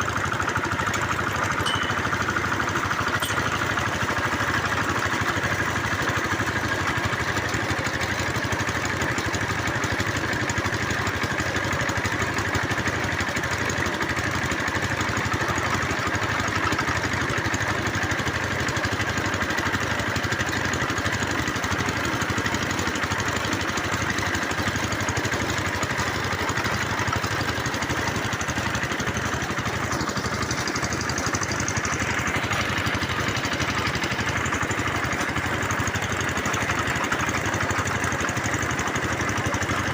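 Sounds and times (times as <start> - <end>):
drilling machine engine running: 0.0 - 39.9.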